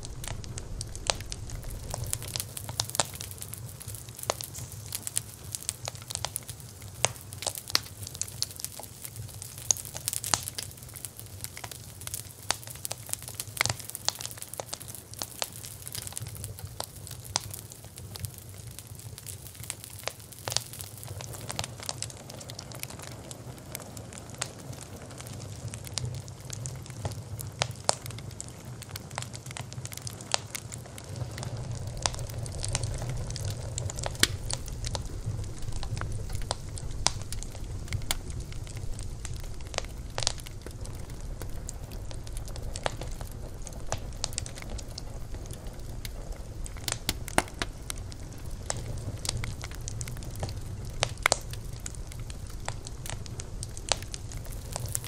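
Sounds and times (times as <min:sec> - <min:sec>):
bonfire crackling and popping: 0:00.0 - 0:55.0
low rumble of flames: 0:00.0 - 0:55.0.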